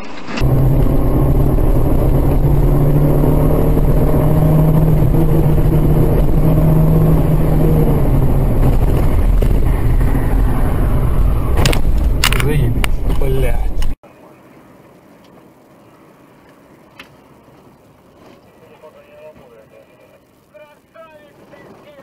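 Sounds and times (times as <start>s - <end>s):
car engine drone: 0.0s - 22.0s.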